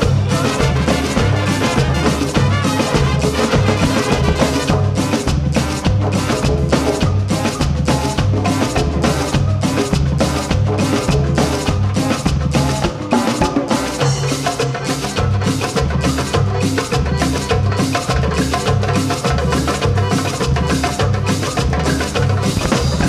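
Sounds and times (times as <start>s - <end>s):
percussion ensemble drumming: 0.0s - 23.0s.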